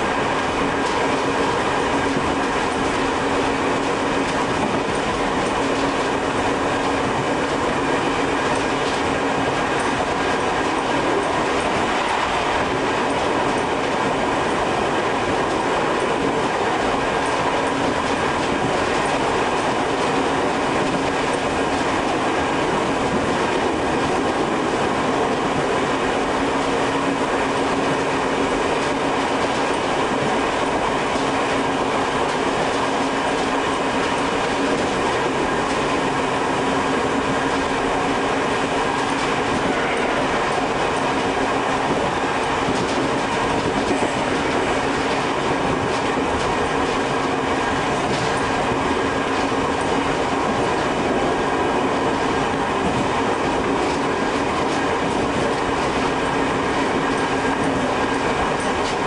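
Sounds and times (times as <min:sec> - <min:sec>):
electric train running: 0:00.0 - 0:59.0.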